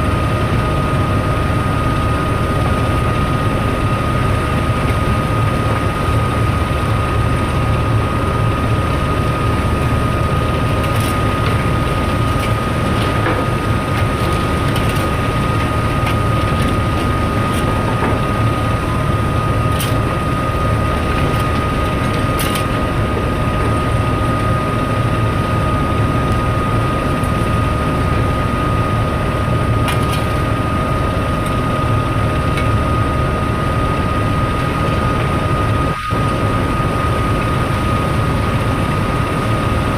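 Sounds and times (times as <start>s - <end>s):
high whine: 0.0s - 39.9s
heavy machinery rumbling: 1.1s - 39.9s.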